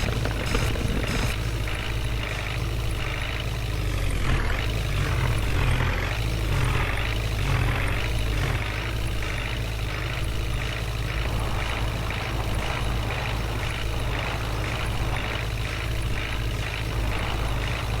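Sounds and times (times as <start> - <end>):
mechanical clatter: 0.0 - 18.0
tractor engine droning: 0.0 - 18.0.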